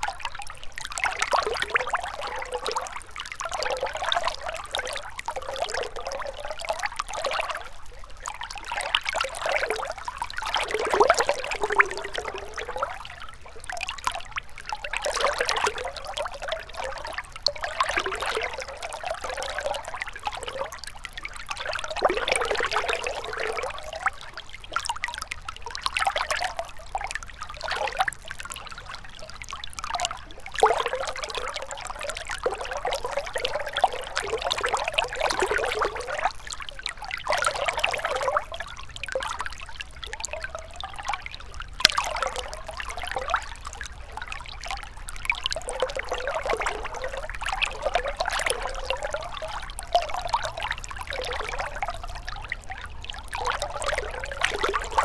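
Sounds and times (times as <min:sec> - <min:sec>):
river water trickling and gurgling: 0:00.0 - 0:55.0.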